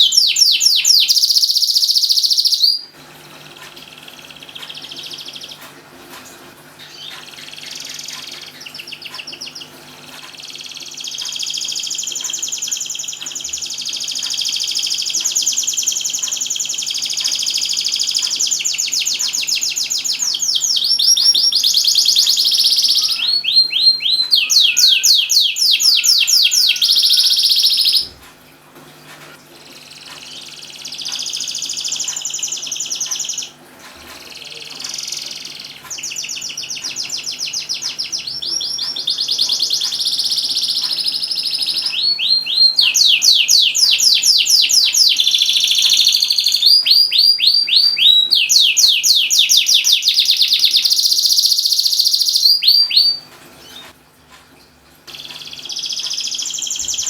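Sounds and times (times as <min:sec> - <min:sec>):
canary singing trills: 0:00.0 - 0:05.8, 0:06.8 - 0:28.2, 0:29.6 - 0:54.0, 0:55.1 - 0:57.0.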